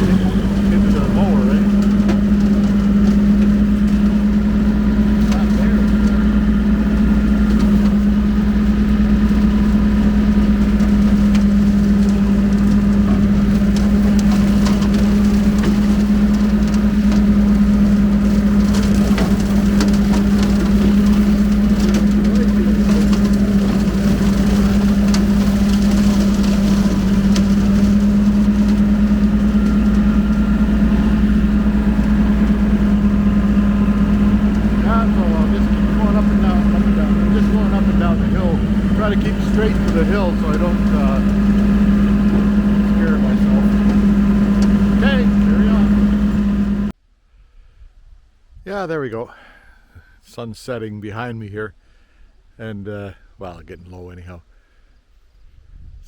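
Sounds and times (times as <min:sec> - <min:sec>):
brush crackling in mower: 0:00.0 - 0:47.0
tractor diesel engine running: 0:00.0 - 0:47.0.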